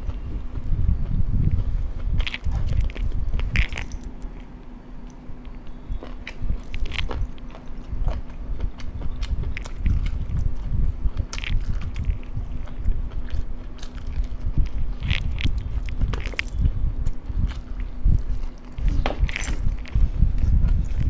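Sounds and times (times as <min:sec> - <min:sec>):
chewing chicken drumstick: 0:00.0 - 0:04.6, 0:05.4 - 0:21.0.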